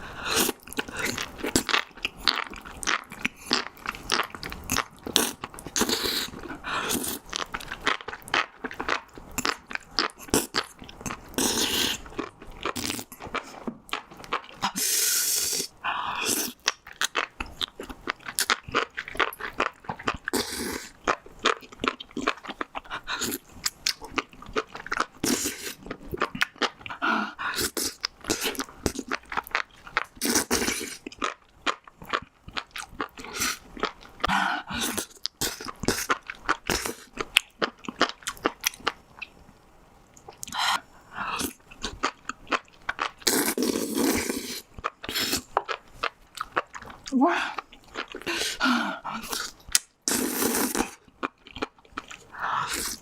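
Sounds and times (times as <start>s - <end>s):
wet crunchy chewing: 0.3s - 14.8s, 16.3s - 39.4s, 40.2s - 53.0s.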